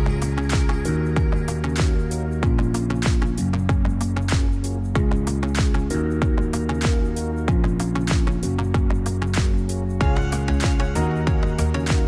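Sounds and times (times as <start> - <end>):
kick drum: 0.0 - 12.0
music with steady beat: 0.0 - 12.0.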